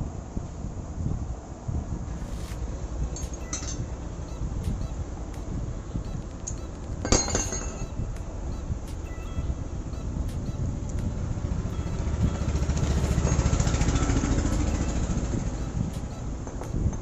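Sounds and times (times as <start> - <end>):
motorcycle engine rumbling: 2.1 - 17.0.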